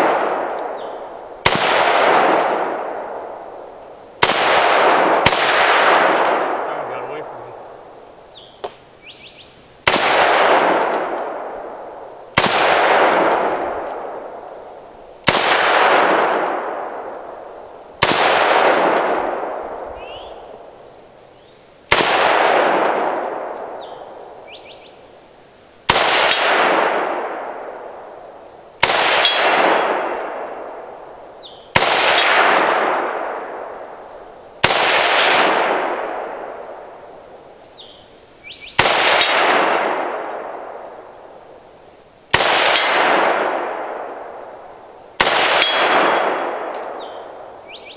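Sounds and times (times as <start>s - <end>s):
rifle shots with echo: 0.0s - 3.6s, 4.2s - 8.0s, 9.8s - 20.9s, 21.9s - 24.8s, 25.9s - 37.4s, 38.5s - 41.4s, 42.3s - 47.9s.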